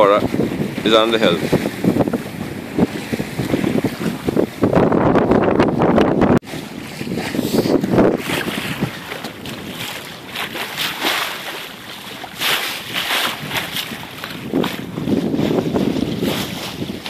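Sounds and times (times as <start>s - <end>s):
choppy water along hull: 0.0s - 17.0s
wind gusting across microphone: 0.0s - 17.0s.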